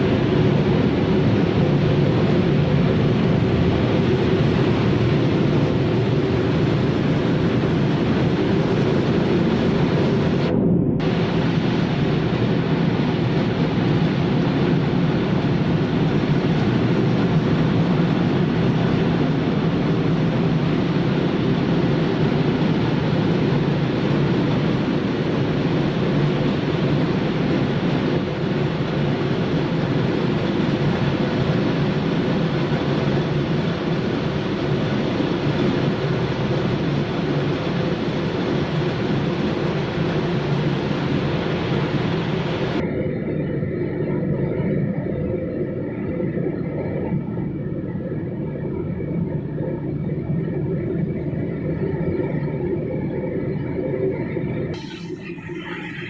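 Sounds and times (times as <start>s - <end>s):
machinery humming and rumbling: 0.0s - 56.0s.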